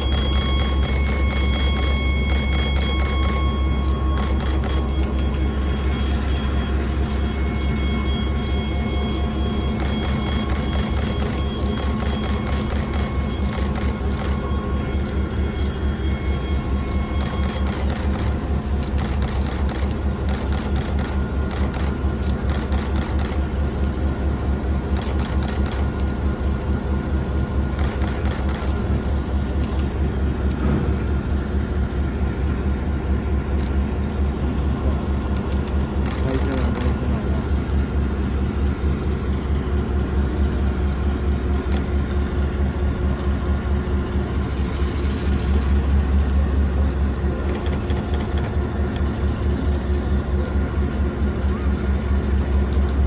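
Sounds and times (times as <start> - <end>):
diesel locomotive engine throbbing: 0.0 - 53.0.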